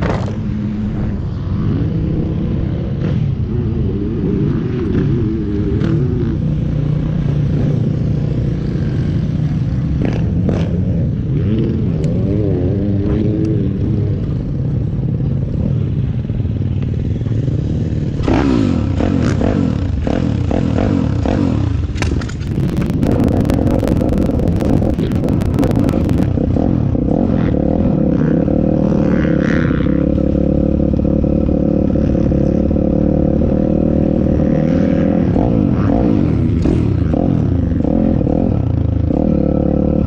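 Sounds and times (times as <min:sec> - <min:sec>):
engine throttle blips: 0:00.0 - 0:32.6.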